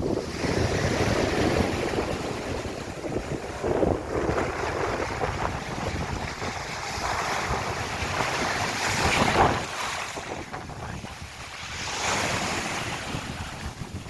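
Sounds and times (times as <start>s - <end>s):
ocean waves washing ashore: 0.0s - 14.0s.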